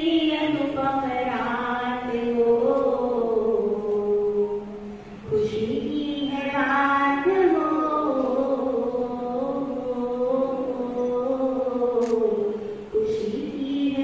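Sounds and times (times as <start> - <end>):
woman chanting a devotional song: 0.0 - 14.0.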